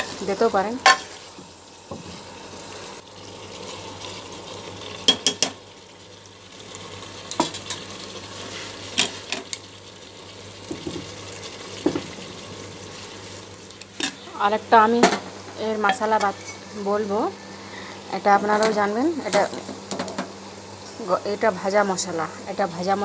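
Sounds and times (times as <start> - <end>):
curry sizzling in pot: 0.0 - 23.0.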